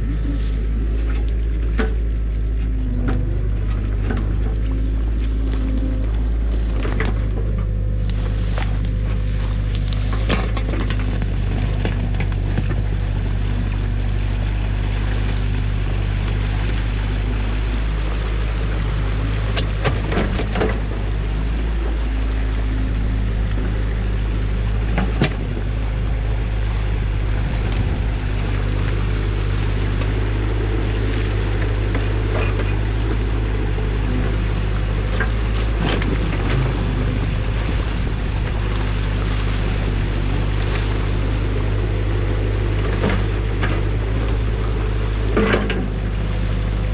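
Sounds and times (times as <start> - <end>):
excavator diesel engine running: 0.0 - 46.9
water rushing: 0.0 - 46.9.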